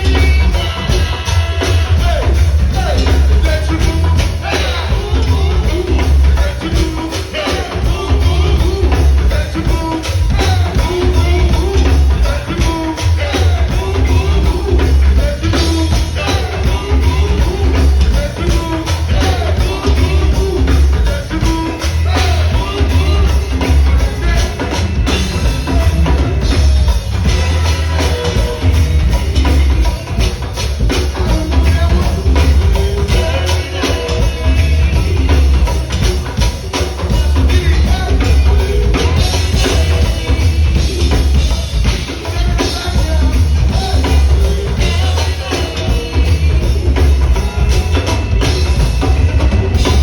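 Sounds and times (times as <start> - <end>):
deep bass line: 0.0 - 50.0
driving drum groove: 0.0 - 50.0
live band music: 0.0 - 50.0.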